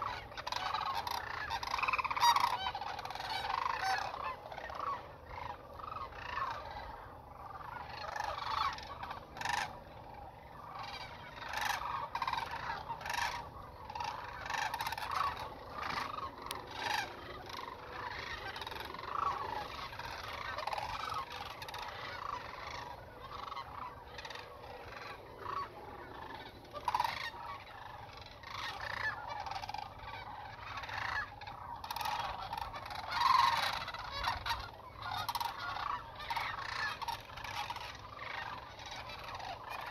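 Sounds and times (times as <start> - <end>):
flock of cranes calling: 0.0 - 39.9.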